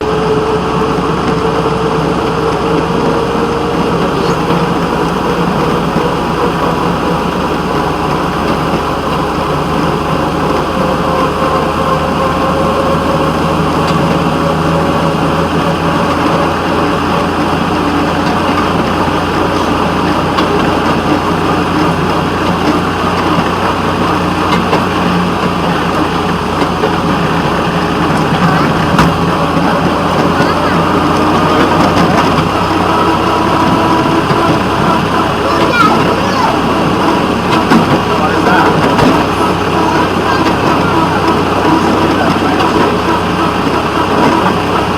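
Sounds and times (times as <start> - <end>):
locomotive engine drone: 0.0 - 44.9.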